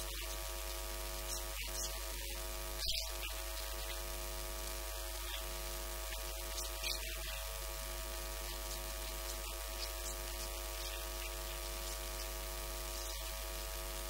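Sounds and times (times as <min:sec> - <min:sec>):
electrical hum with hiss: 0:00.0 - 0:14.0.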